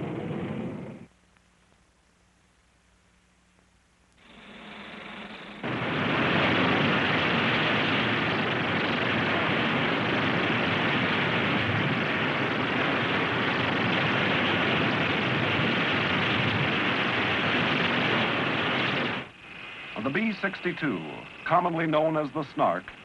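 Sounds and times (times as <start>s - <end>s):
missile rocket launch roar: 0.0s - 1.1s, 4.3s - 22.7s.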